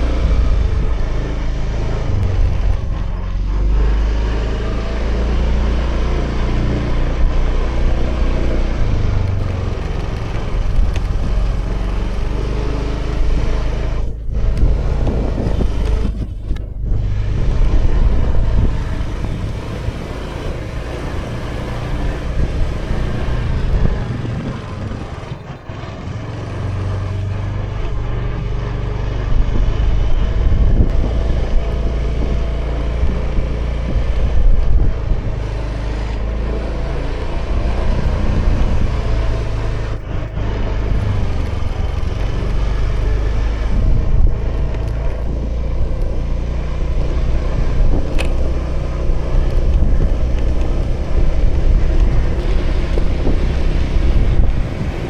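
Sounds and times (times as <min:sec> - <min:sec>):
scooter engine running: 0:00.0 - 0:55.0
wind rushing over microphone: 0:00.0 - 0:55.0.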